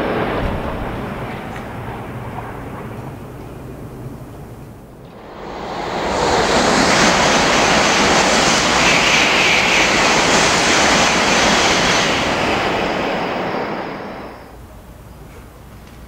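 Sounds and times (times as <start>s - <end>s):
high-speed train rushing past: 0.0s - 15.1s.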